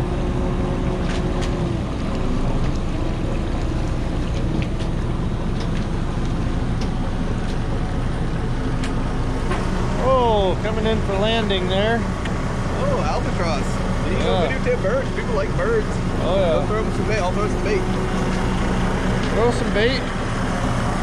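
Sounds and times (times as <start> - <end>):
boat engine low hum: 0.0 - 21.0.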